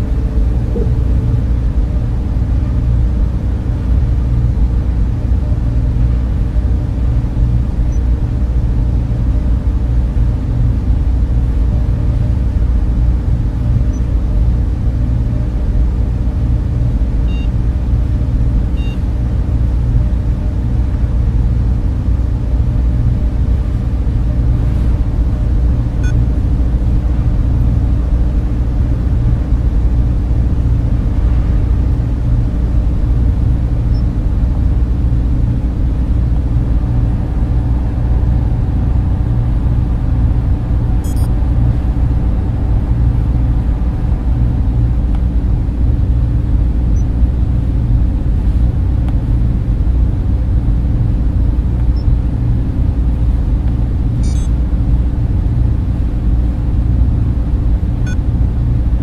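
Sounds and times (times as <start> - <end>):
cooling fans whirring: 0.0 - 59.0.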